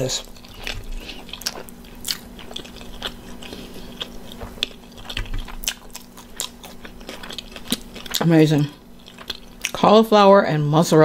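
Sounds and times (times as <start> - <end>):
close chewing and mouth sounds: 0.0 - 11.0
faint steady hum: 0.0 - 11.0.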